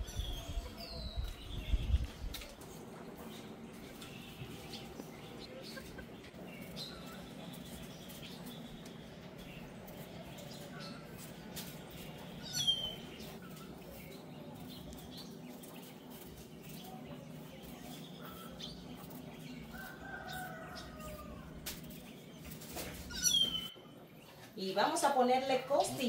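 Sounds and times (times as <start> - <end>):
farmyard birds calling: 0.0 - 26.0
low background hum: 0.0 - 26.0.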